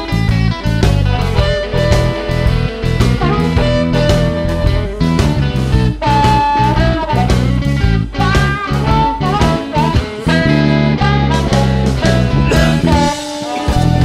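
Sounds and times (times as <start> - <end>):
bass line: 0.0 - 14.0
bluesy lead guitar: 0.0 - 14.0
drum beat: 0.0 - 14.0.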